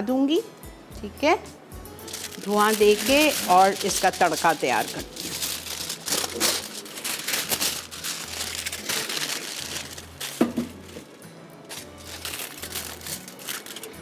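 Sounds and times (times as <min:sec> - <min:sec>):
crinkling handling noise: 0:02.0 - 0:14.0.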